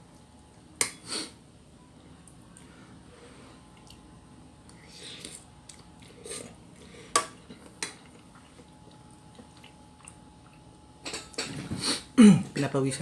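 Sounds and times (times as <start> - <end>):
soft eating noises: 0.0 - 12.6.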